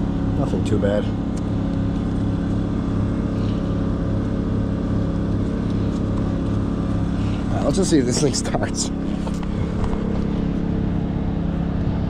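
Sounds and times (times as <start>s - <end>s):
engine running with low throb: 0.0s - 12.0s.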